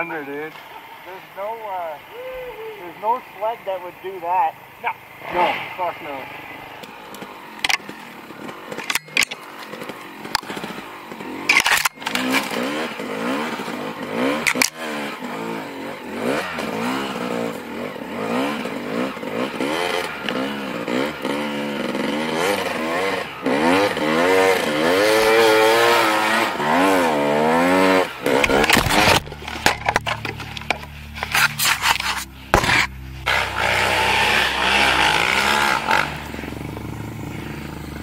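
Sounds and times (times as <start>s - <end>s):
motorbike engine revving: 0.0s - 38.0s.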